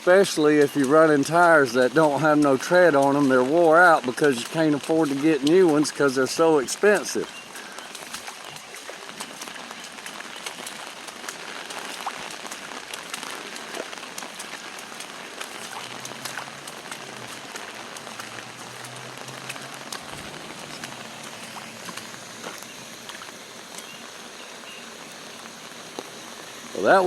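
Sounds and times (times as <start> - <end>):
rain falling: 0.0 - 27.0
raindrops ticking: 0.0 - 27.0.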